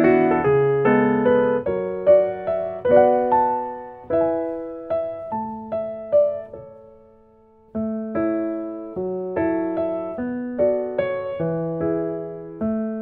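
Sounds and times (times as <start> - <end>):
gentle solo piano: 0.0 - 13.0.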